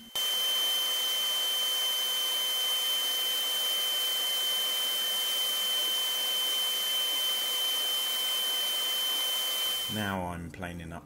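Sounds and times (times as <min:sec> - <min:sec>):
electric paint spray gun whine: 0:00.0 - 0:10.0.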